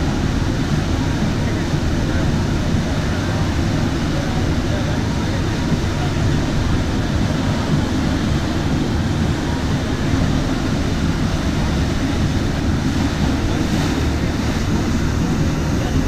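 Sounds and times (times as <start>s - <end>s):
water rushing in boat wake: 0.0s - 16.0s
wind buffeting microphone: 0.0s - 16.0s.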